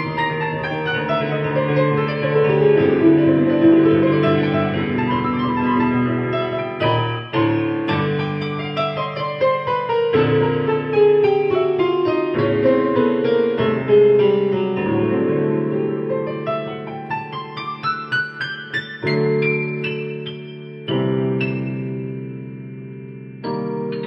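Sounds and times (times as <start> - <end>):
digital piano improvisation: 0.0 - 24.0.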